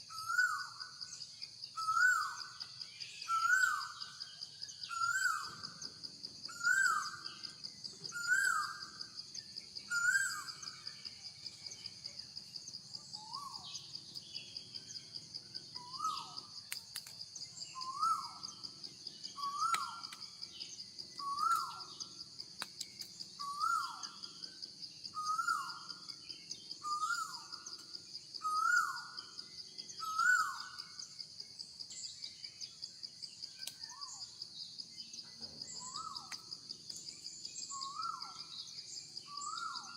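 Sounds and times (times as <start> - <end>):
high pulsing insect drone: 0.0 - 39.9.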